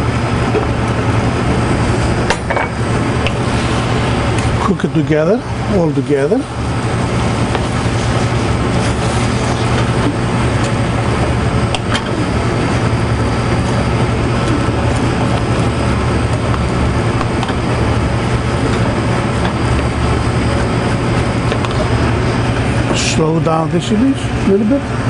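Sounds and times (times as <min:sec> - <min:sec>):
low hum: 0:00.0 - 0:23.5
kitchen rumble and hiss: 0:00.0 - 0:25.0.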